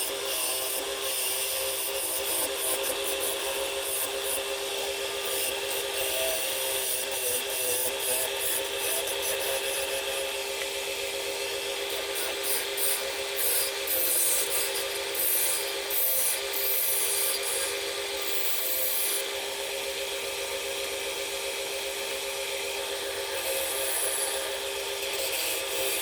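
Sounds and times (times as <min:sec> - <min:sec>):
wood lathe motor hum: 0:00.0 - 0:26.0.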